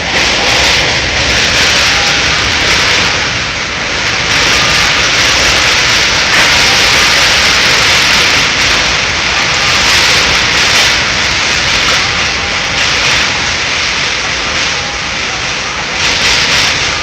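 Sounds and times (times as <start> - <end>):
strong wind rushing: 0.0 - 17.0.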